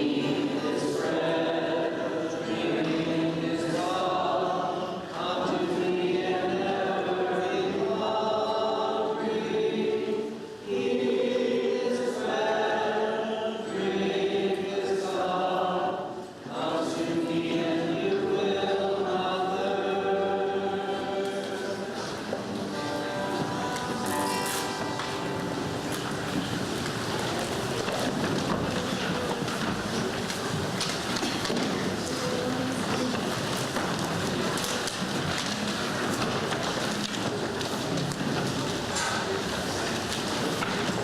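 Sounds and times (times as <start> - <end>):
group singing a slow hymn: 0.0 - 37.3.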